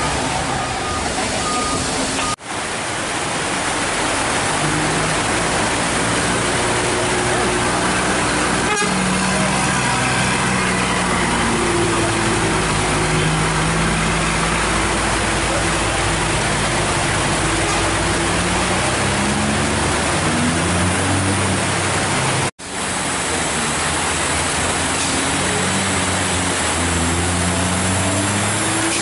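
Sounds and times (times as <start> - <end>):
heavy rain hissing on road: 0.0 - 29.0
truck diesel engine climbing: 0.0 - 29.0.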